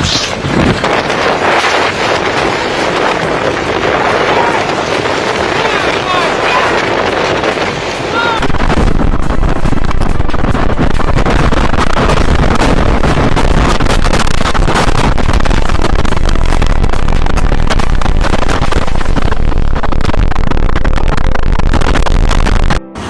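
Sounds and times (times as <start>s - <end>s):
tornado wind buffeting microphone: 0.0s - 22.8s.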